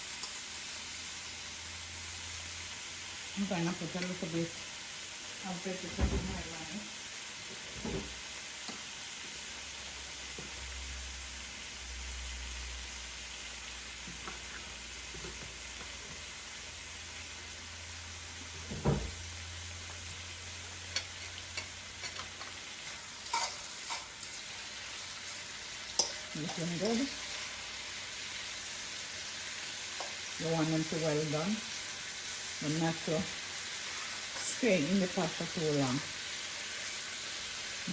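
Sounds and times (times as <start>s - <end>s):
shrimp sizzling in hot oil: 0.0s - 37.9s.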